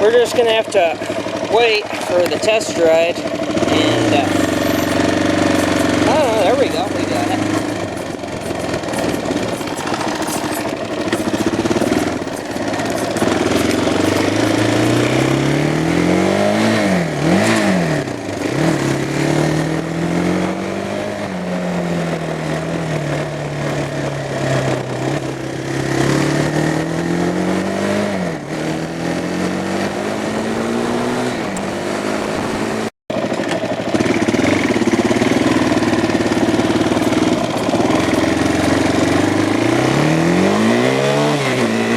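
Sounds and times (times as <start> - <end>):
quad engine revving: 0.0 - 41.9.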